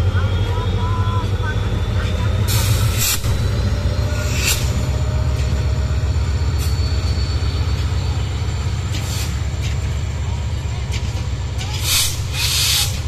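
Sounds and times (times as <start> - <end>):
locomotive engine throbbing: 0.0 - 13.0.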